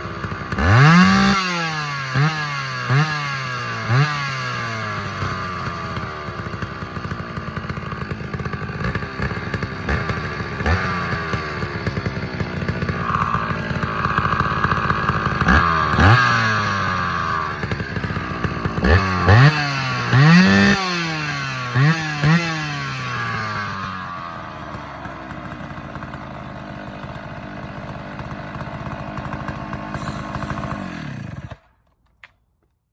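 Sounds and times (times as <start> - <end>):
chainsaw revving: 0.0 - 32.0.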